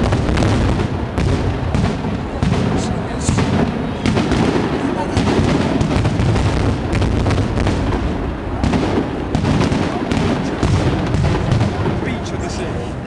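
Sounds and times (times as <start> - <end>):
fireworks cracking: 0.0 - 13.0.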